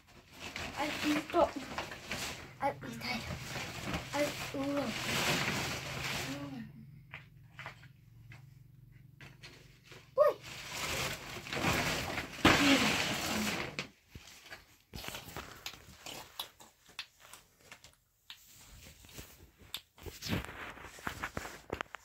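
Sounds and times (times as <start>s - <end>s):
plastic tarp rustling and crinkling: 0.0s - 6.7s, 9.4s - 22.0s.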